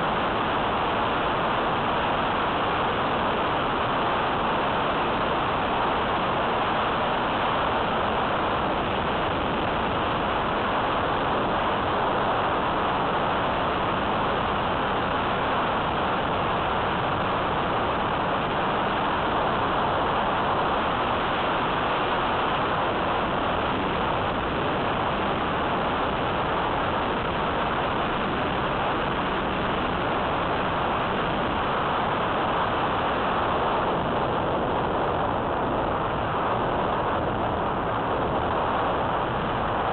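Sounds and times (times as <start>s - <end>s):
rush of airflow: 0.0s - 39.9s.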